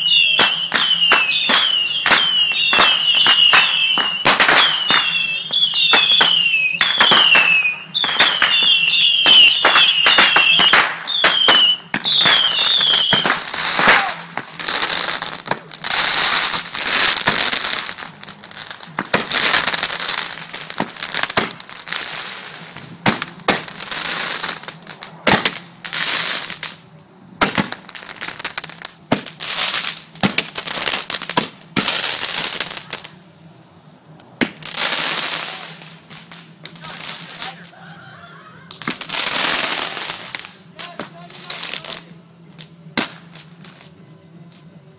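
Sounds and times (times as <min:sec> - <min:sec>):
fireworks cracking and banging: 0:00.0 - 0:33.2, 0:34.2 - 0:44.7
fireworks whistling: 0:00.0 - 0:44.8.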